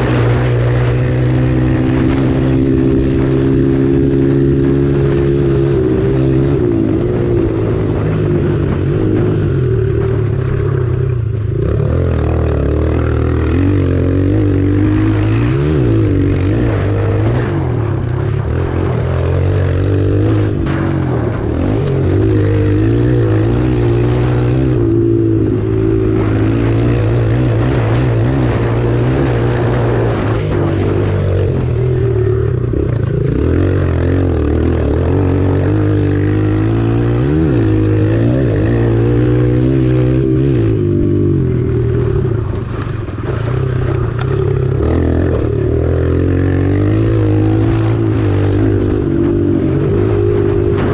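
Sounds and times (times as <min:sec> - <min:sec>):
pit bike engines revving: 0:00.0 - 0:50.9.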